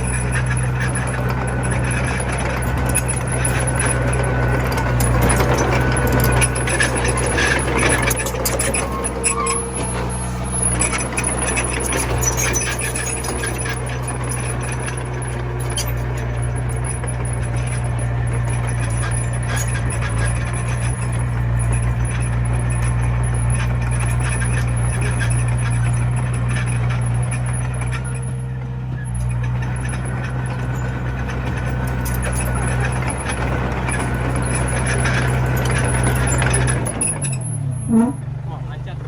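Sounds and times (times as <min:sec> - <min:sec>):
scattered clicks and knocks: 0:00.0 - 0:37.4
bulldozer diesel engine running: 0:00.0 - 0:39.0.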